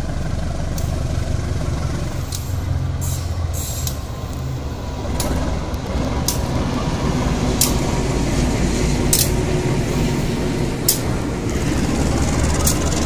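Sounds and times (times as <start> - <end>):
diesel locomotive rumbling: 0.0 - 13.0
wheels clacking on rail joints: 0.0 - 13.0.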